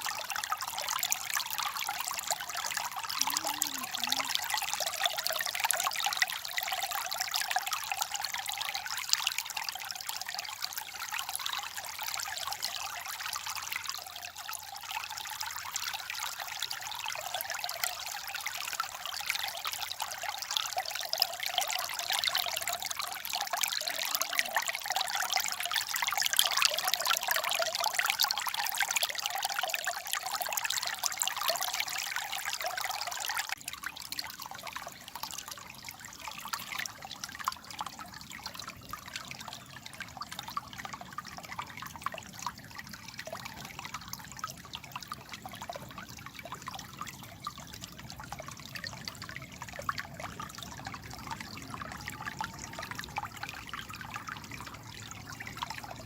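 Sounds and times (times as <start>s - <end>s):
stream water trickling and splashing: 0.0s - 56.0s.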